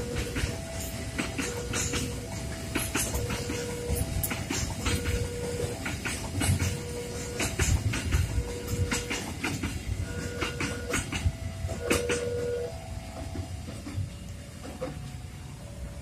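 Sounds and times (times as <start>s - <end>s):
train wheels clacking on rail joints: 0.0s - 15.7s.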